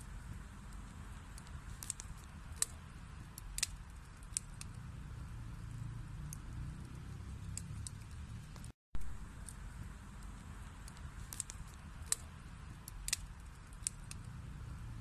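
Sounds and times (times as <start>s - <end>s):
wood fire crackling and popping: 0.0s - 14.8s
low rumble of flames: 0.0s - 15.0s.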